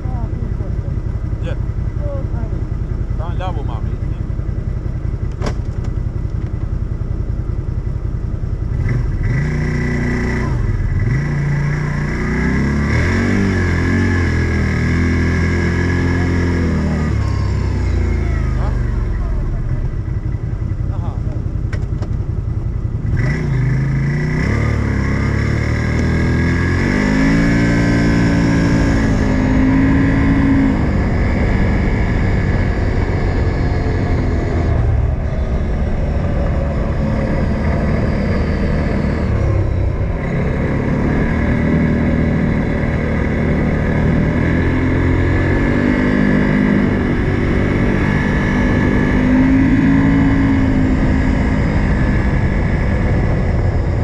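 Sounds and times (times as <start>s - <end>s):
off-road vehicle engine revving: 0.0s - 7.1s, 8.4s - 54.0s.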